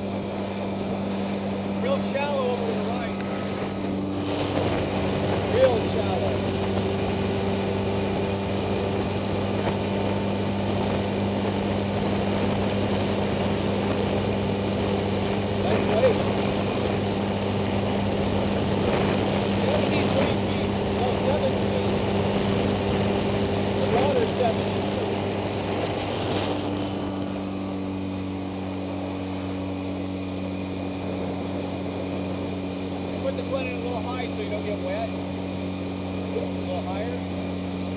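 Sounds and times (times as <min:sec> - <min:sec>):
outboard motor droning: 0:00.0 - 0:37.9.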